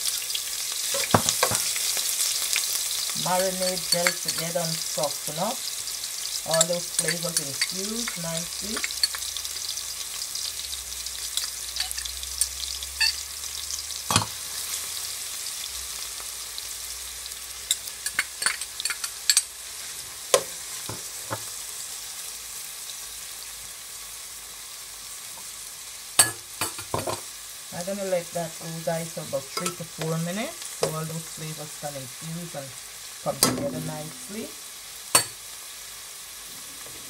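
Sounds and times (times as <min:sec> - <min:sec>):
vegetables sizzling in hot oil: 0:00.0 - 0:37.0.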